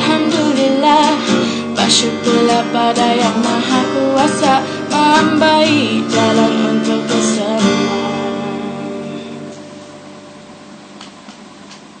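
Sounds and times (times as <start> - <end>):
acoustic guitar chord ringing: 0.0 - 10.9.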